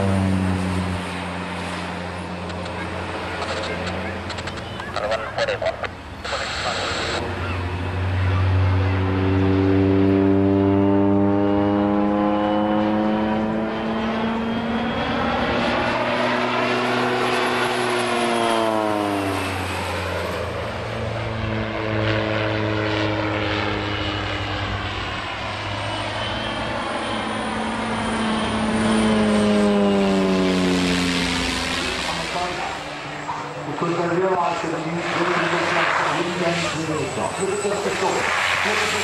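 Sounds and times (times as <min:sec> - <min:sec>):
propeller drone: 0:00.0 - 0:39.0
turbine whine: 0:00.0 - 0:39.0.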